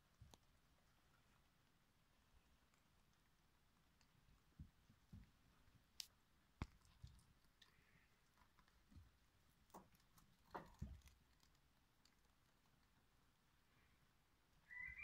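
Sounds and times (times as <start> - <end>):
rabbits gnawing carrot: 0.0 - 14.9.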